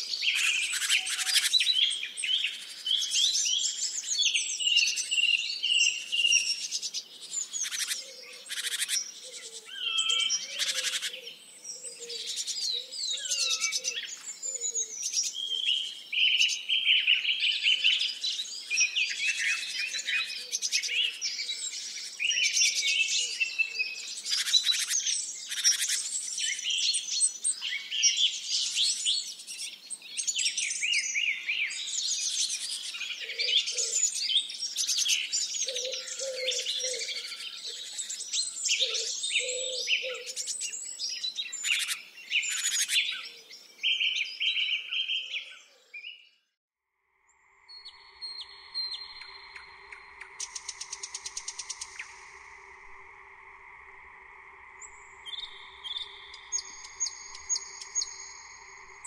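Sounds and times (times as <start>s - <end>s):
songbirds singing: 0.0s - 46.6s, 47.3s - 59.0s.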